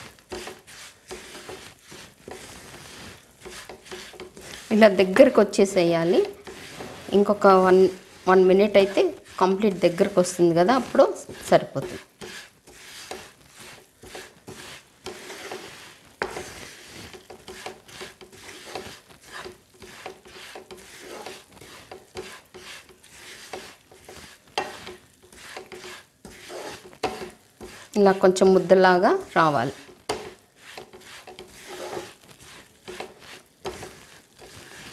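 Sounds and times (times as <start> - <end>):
spatula scraping sticky mix in pan: 0.0 - 34.9.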